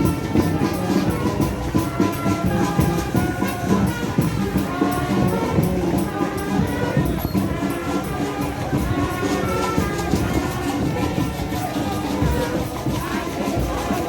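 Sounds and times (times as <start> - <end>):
brass band music: 0.0 - 14.0
steady percussion beat: 0.0 - 14.0.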